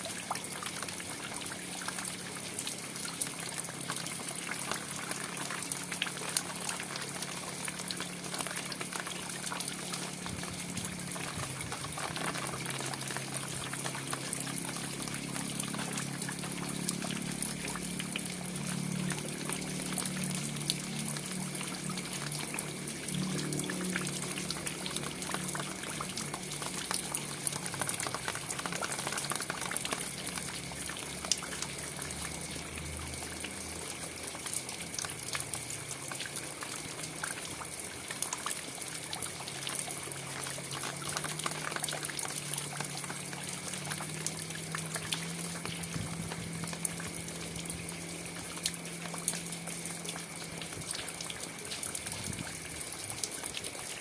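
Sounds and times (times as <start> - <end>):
rain falling: 0.0 - 54.0
raindrop ticks: 0.1 - 54.0.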